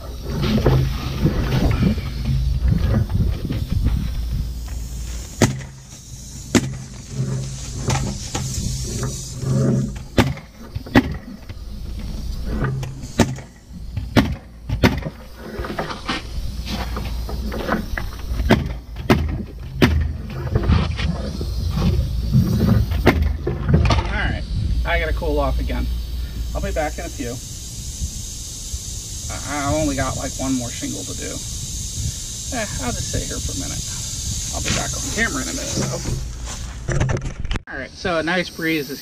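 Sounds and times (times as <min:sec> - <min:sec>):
low steady hum: 0:00.0 - 0:38.4.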